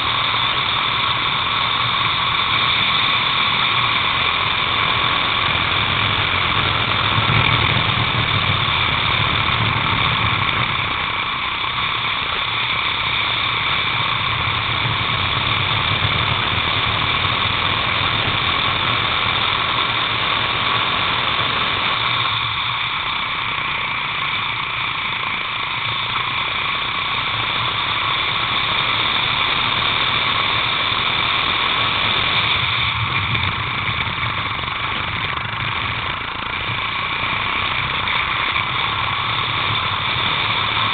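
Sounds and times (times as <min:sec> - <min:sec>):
kart engine high whine: 0:00.0 - 0:40.9.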